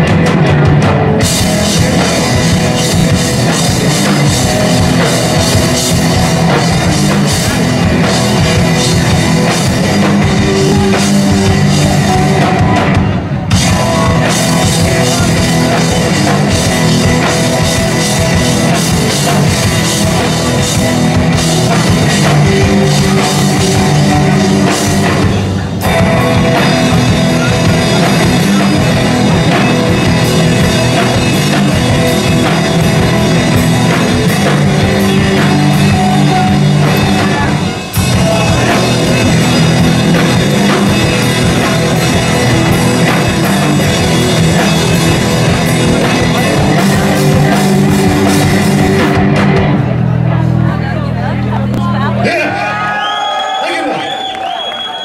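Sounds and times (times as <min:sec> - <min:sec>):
heavy metal band playing live: 0:00.0 - 0:53.0.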